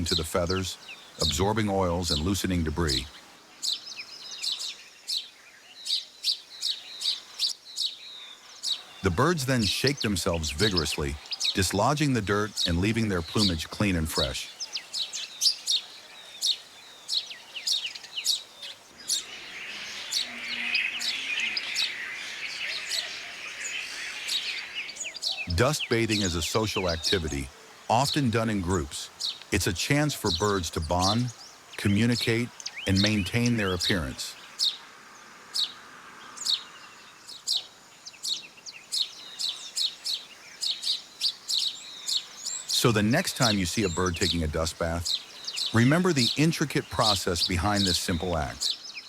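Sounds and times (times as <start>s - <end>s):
sparrows chirping: 0.0s - 49.0s.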